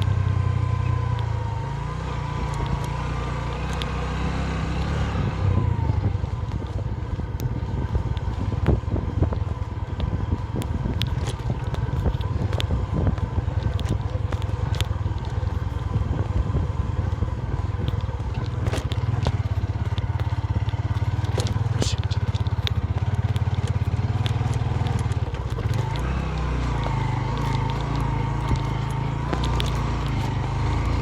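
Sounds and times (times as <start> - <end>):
motorcycle engine running: 0.0 - 31.0
sharp clicks and crackles: 0.0 - 31.0.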